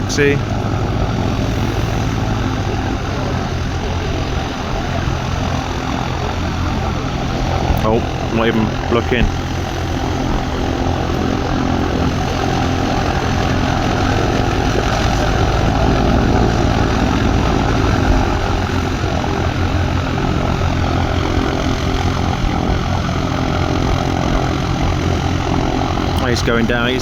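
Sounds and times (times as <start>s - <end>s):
propeller aircraft engine droning: 0.0s - 27.0s.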